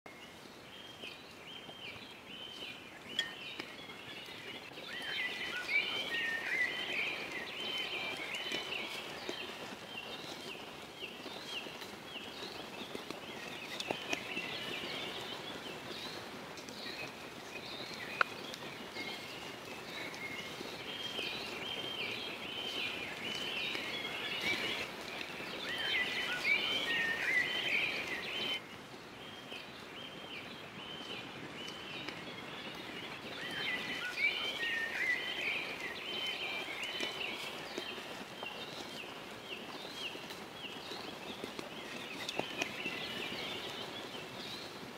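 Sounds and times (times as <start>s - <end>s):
forest birds singing: 0.1s - 44.9s.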